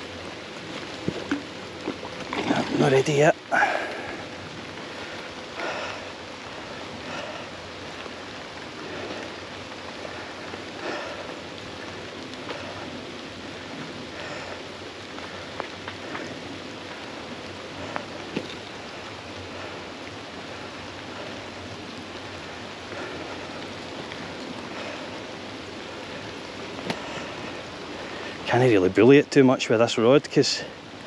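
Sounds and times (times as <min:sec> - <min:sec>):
rushing water: 0:00.0 - 0:31.0.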